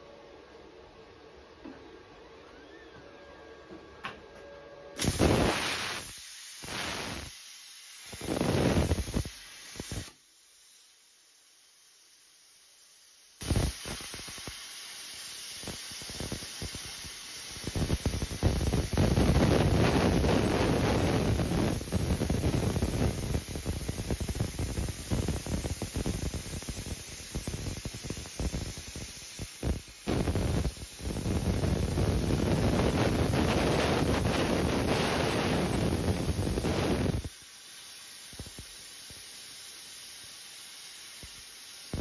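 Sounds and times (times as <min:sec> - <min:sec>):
plasma cutter arc hissing: 0:05.0 - 0:42.0.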